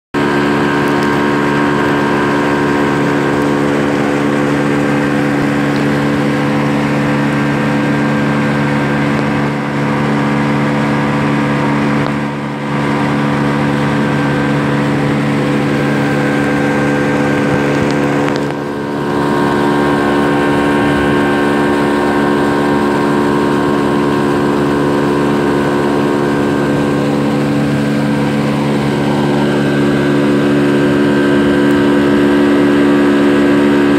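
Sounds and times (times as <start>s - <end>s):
motorboat engine running: 0.1s - 33.9s
water rushing along hull: 0.2s - 33.9s.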